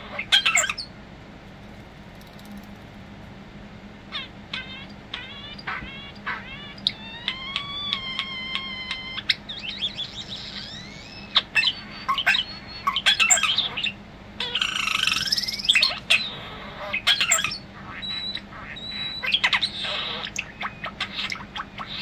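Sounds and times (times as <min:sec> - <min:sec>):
starling singing: 0:00.0 - 0:00.9, 0:04.1 - 0:22.0.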